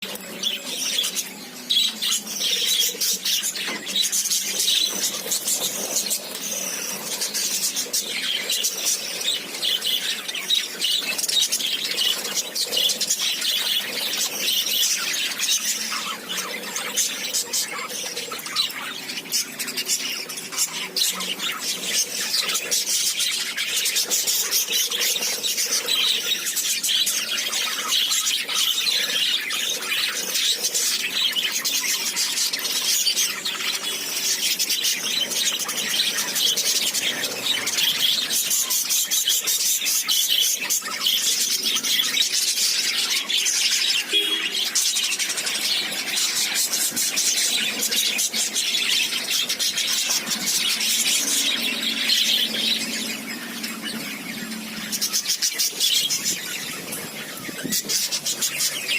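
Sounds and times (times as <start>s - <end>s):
lovebirds chirping and squealing: 0.0s - 58.9s.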